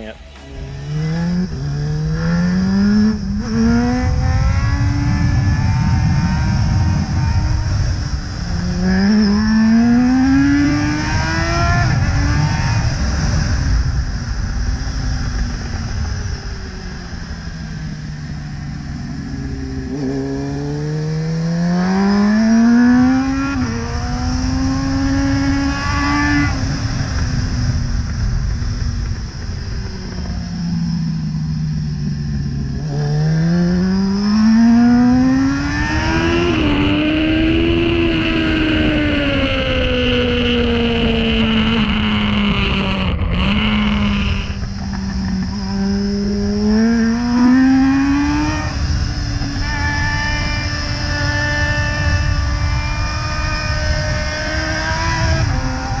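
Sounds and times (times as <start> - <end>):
wind rush: 0.0 - 20.8, 23.0 - 56.0
motorcycle engine revving: 0.0 - 56.0.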